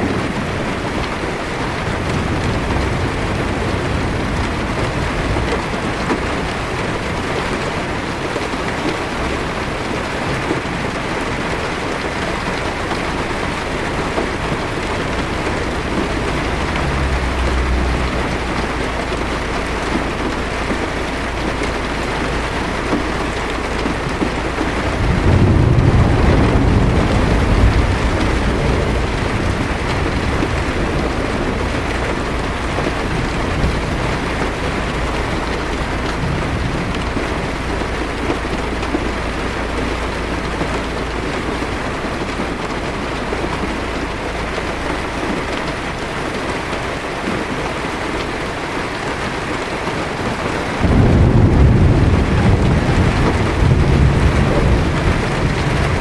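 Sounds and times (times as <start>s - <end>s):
heavy rain on a car windshield: 0.0s - 56.0s
thunder rolling: 0.0s - 56.0s.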